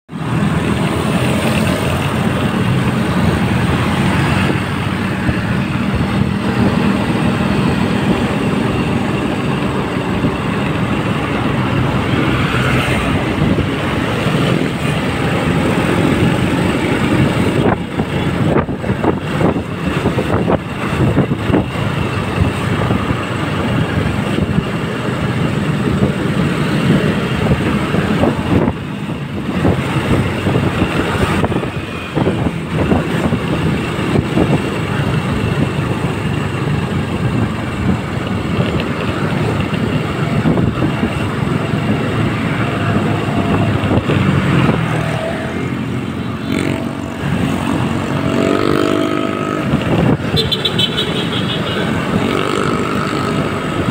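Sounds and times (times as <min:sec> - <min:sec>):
motorcycle engine: 0:00.1 - 0:53.9
wind buffeting microphone: 0:00.2 - 0:50.8.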